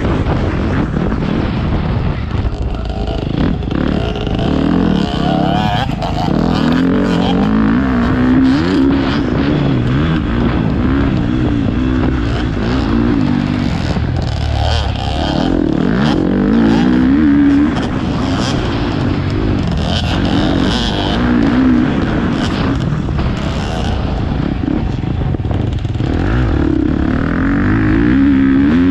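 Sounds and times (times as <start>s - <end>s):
motocross bike engine revving: 0.0s - 28.9s.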